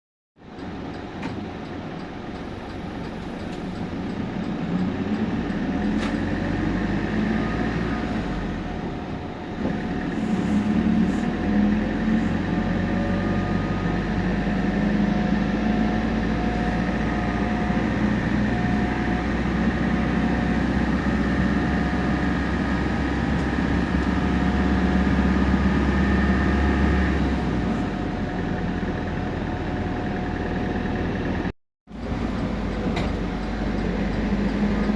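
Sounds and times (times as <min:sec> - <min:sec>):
bus diesel engine accelerating: 0:00.4 - 0:34.9
turbo and differential whine: 0:00.4 - 0:34.9.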